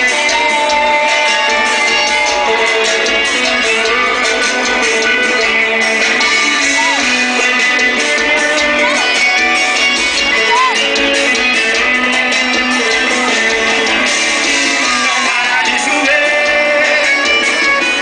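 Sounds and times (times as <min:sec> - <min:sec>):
guitar: 0:00.0 - 0:18.0
live band playing: 0:00.0 - 0:18.0
person singing: 0:00.0 - 0:18.0.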